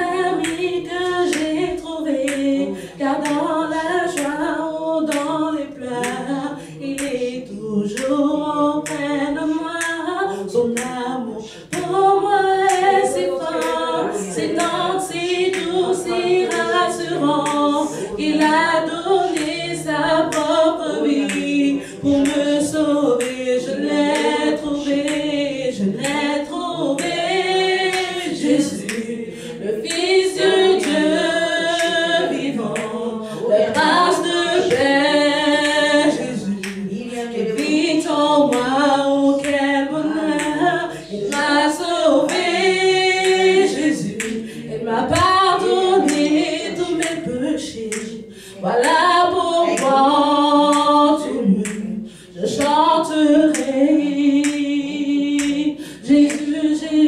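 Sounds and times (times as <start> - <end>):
woman singing unaccompanied: 0.0 - 57.0.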